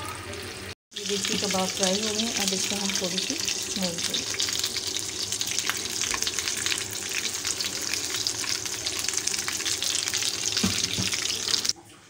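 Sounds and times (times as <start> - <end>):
oil sizzling in a frying pan: 0.0 - 11.8.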